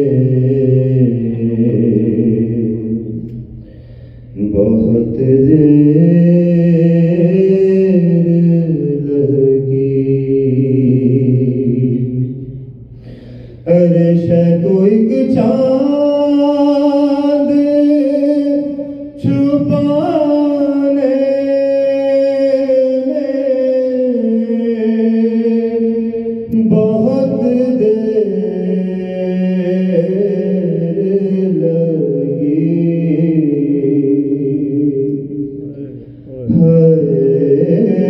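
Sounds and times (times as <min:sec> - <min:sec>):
man chanting into a microphone: 0:00.0 - 0:03.6, 0:04.2 - 0:12.7, 0:13.5 - 0:38.0.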